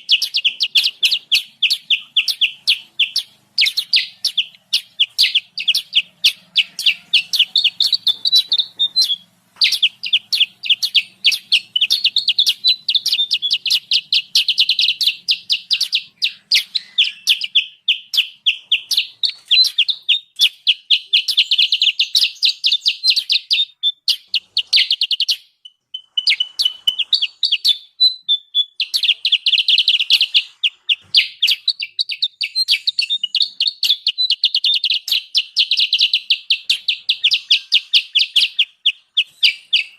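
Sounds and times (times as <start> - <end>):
bulbul chattering chip calls: 0.0 - 39.9.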